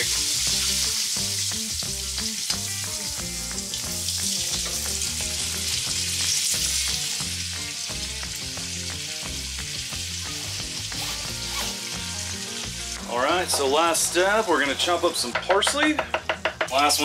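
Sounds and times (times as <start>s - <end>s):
fish frying in oil: 0.0s - 15.0s, 15.9s - 17.0s
background music with steady beat: 0.0s - 17.0s.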